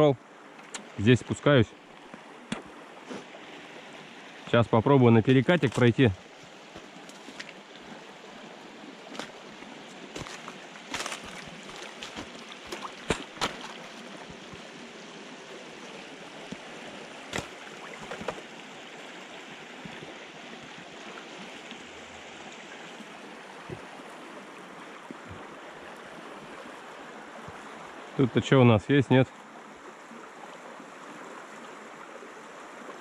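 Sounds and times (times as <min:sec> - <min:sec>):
river running over stones: 0:00.0 - 0:33.0.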